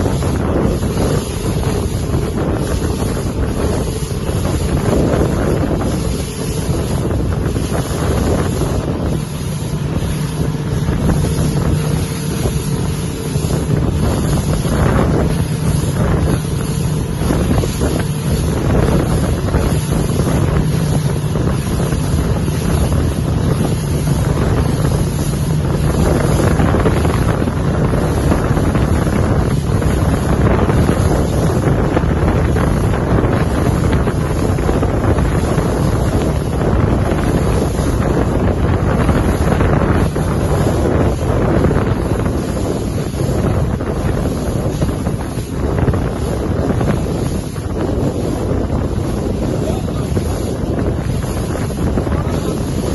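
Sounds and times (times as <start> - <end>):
motorboat engine humming: 0.0 - 52.9
rushing water: 0.0 - 52.9
wind buffeting microphone: 0.0 - 52.9.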